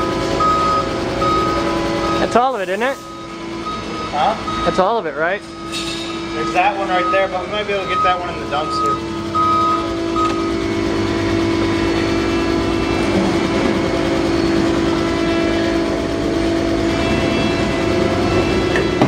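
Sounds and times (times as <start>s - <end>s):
forklift motor whine: 0.0s - 19.0s.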